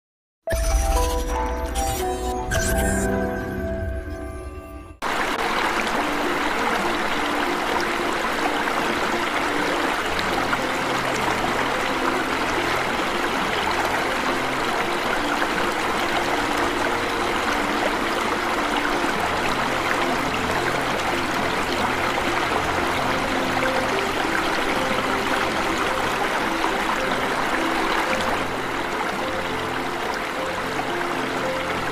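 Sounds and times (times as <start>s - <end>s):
waterfall splashing into a pool: 5.0s - 30.7s.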